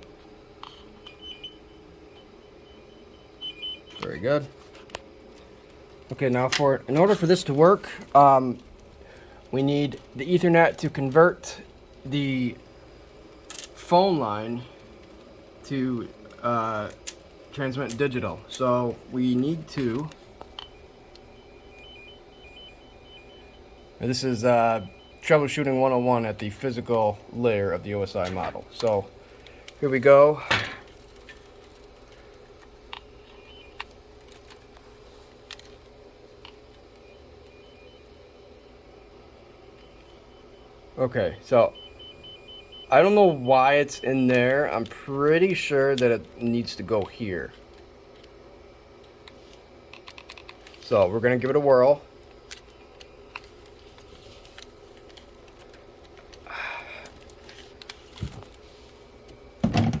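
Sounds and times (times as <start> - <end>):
steady electrical hum: 0.0 - 60.0.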